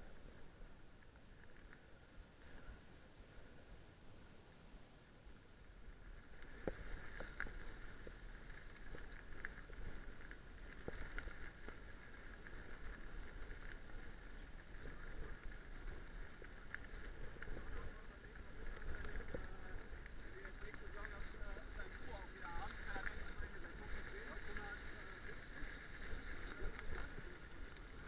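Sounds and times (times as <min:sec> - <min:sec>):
bike tyres on gravel: 0:04.9 - 0:28.0.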